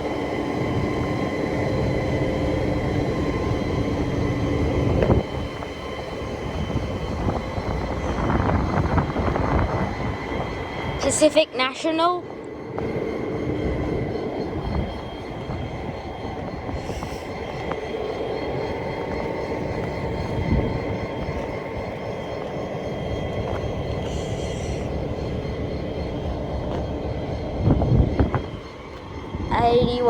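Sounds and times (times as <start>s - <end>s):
constant whine: 0.0s - 30.0s
locomotive engine idling drone: 0.0s - 30.0s.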